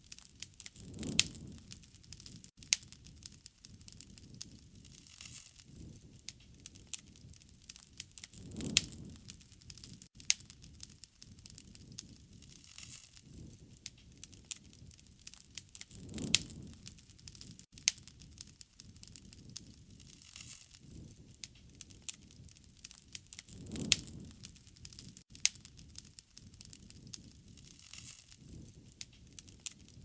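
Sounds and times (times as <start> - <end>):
fire pops: 0.0 - 30.0
wood fire crackling: 0.0 - 30.0
rushing swells of flame: 0.4 - 30.0.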